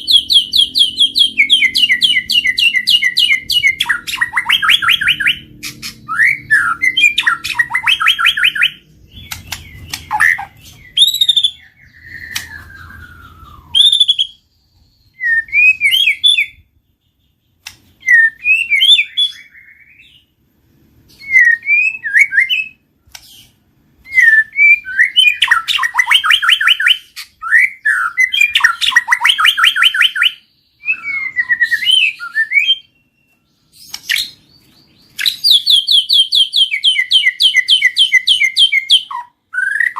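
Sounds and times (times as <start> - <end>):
bird singing trills and whistles: 0.0 - 20.4, 21.0 - 39.9.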